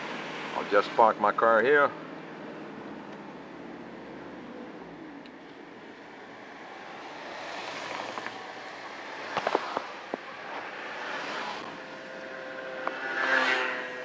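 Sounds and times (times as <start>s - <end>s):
traffic tyre and road noise: 0.0s - 14.0s.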